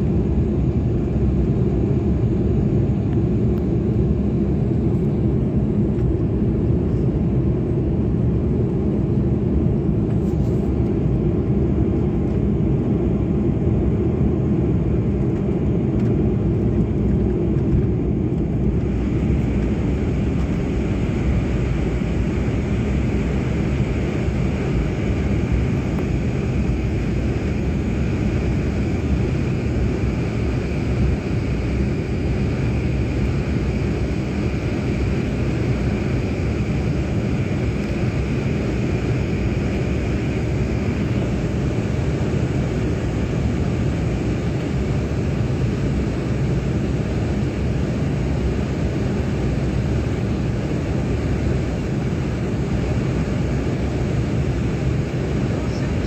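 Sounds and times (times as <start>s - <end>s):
jet engines rushing and whining: 0.0s - 56.0s.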